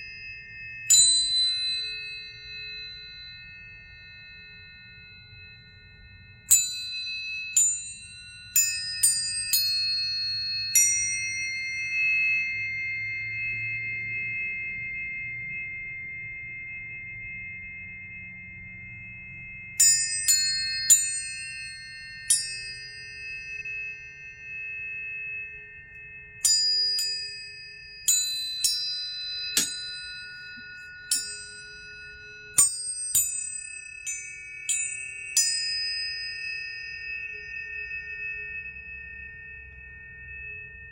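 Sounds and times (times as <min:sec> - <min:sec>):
tuning forks pinging and ringing: 0:00.0 - 0:40.9.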